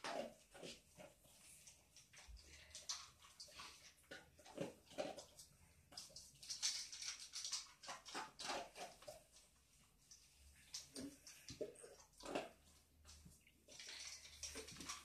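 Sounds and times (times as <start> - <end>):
dog chewing and smacking: 0.0 - 9.6, 10.2 - 15.0.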